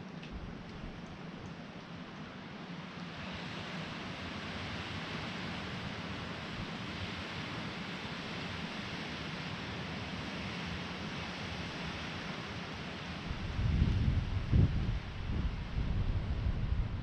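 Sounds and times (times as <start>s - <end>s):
blizzard wind through trees: 0.0s - 17.0s.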